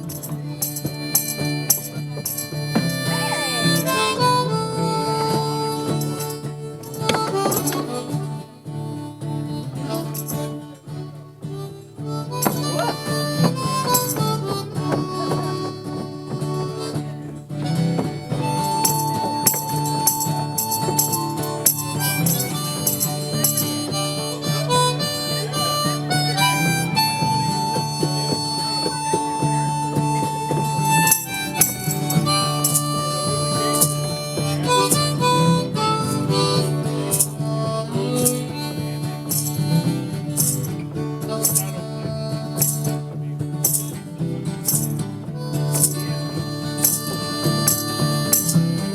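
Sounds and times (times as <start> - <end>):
harmonica playing a jig: 0.0 - 48.9.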